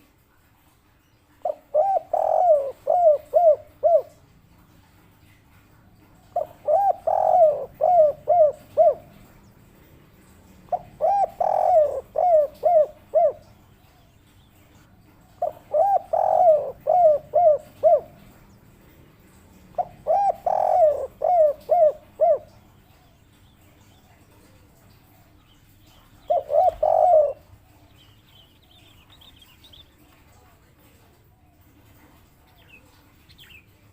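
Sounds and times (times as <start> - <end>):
dove cooing: 1.4 - 29.2.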